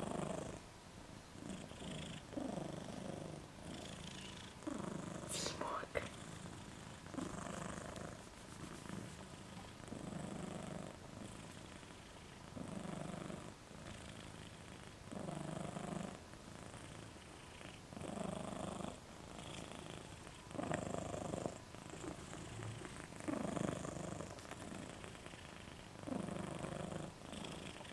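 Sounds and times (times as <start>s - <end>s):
pet snoring: 0.0s - 0.6s, 1.4s - 27.9s.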